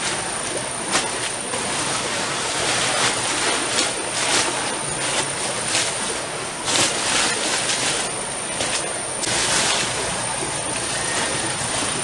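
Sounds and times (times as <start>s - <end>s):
nylon tent fabric rustling: 0.0s - 12.0s.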